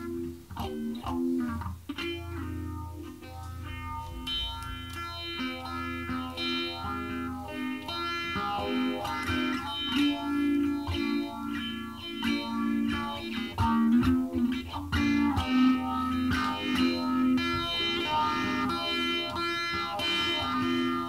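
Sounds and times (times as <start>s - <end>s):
electric guitar with effects: 0.0s - 21.0s.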